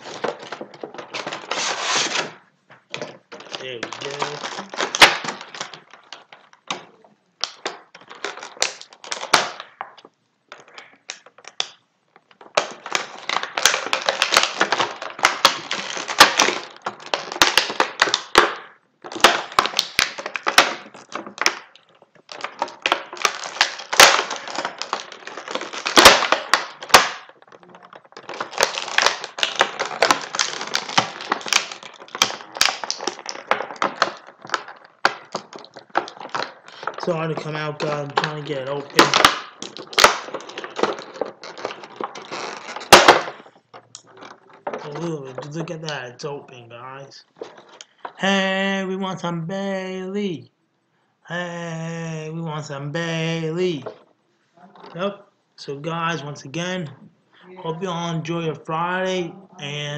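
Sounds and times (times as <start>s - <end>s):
plastic packaging crackling: 0.0s - 48.2s.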